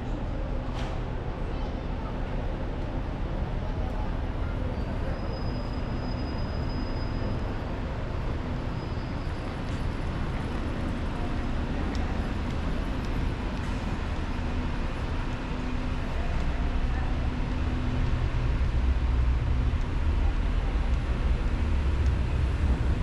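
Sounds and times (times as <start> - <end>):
low rumble of vehicles: 0.0 - 23.0.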